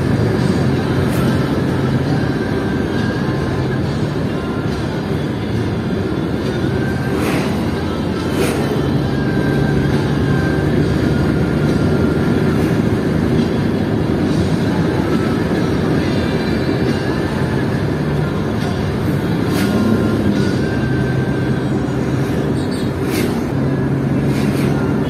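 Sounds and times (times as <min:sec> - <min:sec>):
car engine hum: 0:00.0 - 0:25.0
road rumble: 0:00.0 - 0:25.0.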